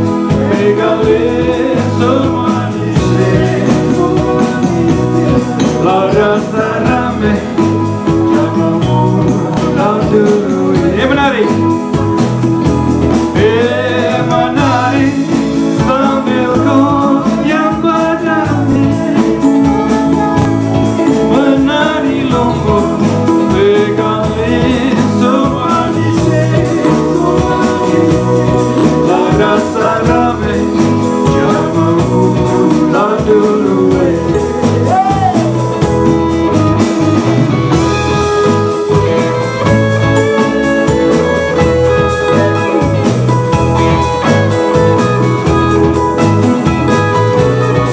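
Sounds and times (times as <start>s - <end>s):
person singing: 0.0s - 12.0s, 13.1s - 47.9s
bass pulse: 0.0s - 47.9s
guitar: 0.0s - 47.9s.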